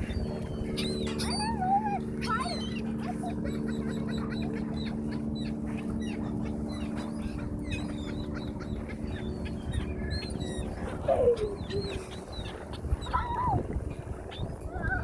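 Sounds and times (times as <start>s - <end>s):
ducks and birds calling: 0.0s - 15.0s
steady low hum: 0.0s - 15.0s.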